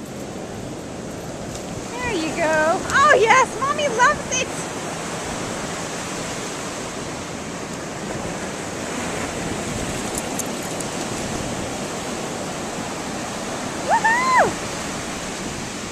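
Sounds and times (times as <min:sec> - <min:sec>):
ocean surf breaking: 0:00.0 - 0:15.9.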